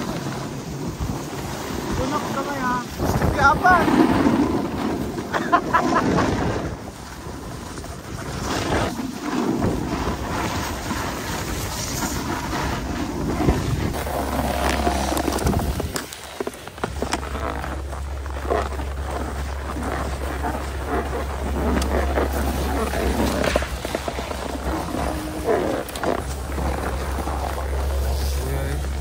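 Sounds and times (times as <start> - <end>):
snowboard scraping over snow: 0.0 - 29.0
wind buffeting microphone: 0.0 - 29.0.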